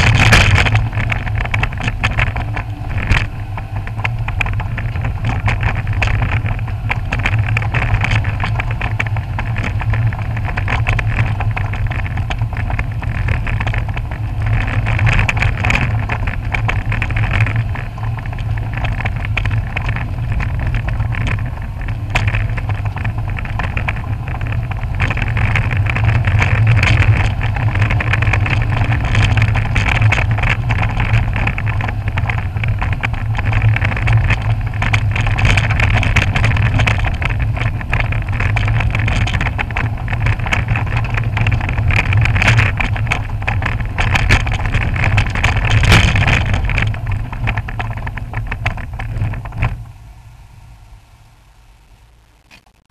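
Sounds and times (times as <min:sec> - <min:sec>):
shock absorber clattering and knocking: 0:00.0 - 0:49.8
road noise: 0:00.0 - 0:52.8
car engine drone: 0:00.0 - 0:52.9.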